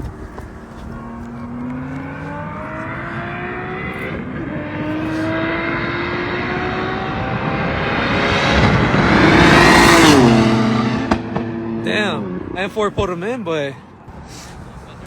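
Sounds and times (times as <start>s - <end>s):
car engines at full throttle: 0.0s - 13.1s.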